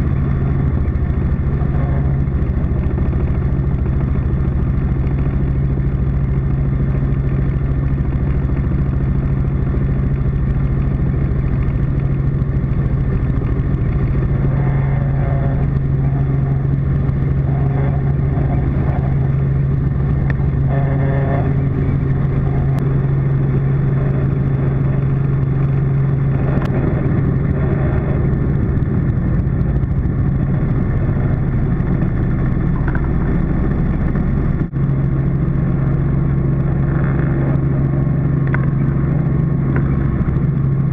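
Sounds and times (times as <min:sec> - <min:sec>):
helicopter engine and rotors drone: 0:00.0 - 0:40.9.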